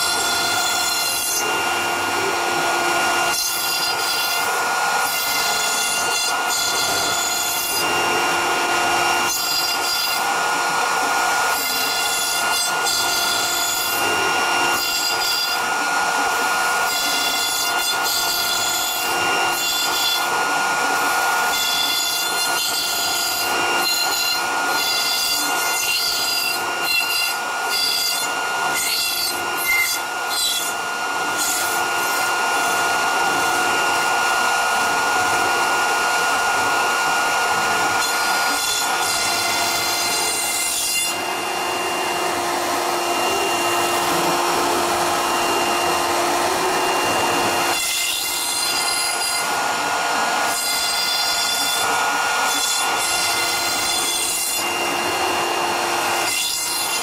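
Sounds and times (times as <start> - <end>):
cnc router spindle whining: 0.0 - 57.0
cutter hissing through foam: 0.0 - 57.0.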